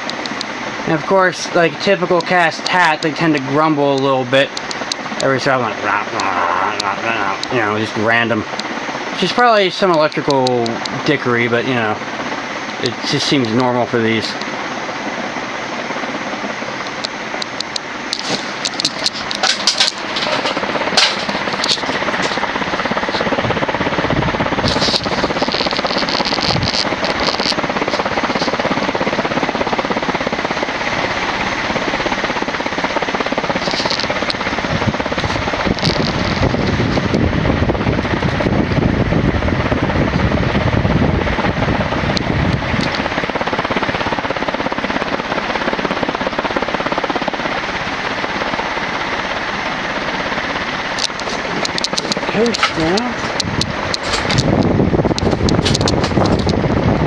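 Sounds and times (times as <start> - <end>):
ceiling fan rush of air: 0.0 - 57.0.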